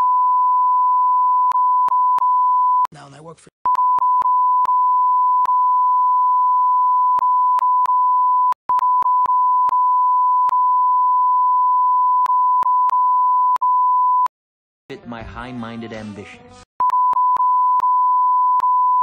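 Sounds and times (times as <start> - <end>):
censor bleep tone: 0.0 - 2.9, 3.7 - 14.3, 16.8 - 19.0.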